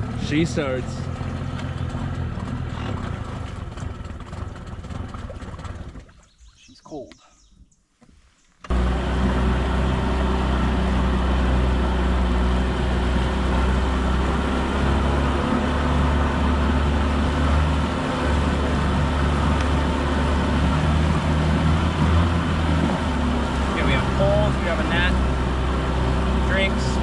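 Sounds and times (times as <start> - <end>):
outboard motor running: 0.0 - 6.7, 8.6 - 27.0
rushing water: 0.0 - 6.8, 8.7 - 27.0.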